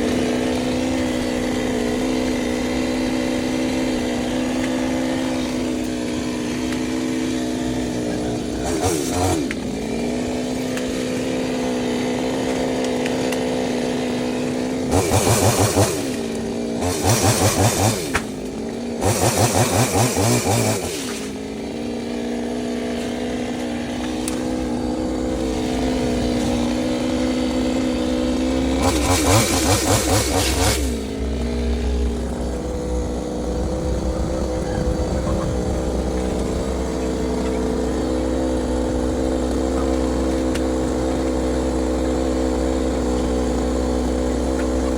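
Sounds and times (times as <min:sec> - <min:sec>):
chainsaw idling and revving: 0:00.0 - 0:44.9.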